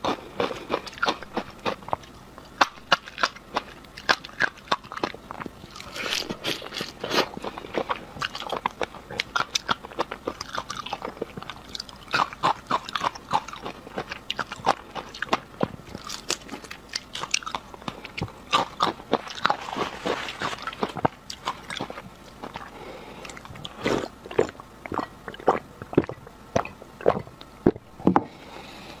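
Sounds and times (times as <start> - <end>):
shrimp shell crunching: 0.0 - 27.2.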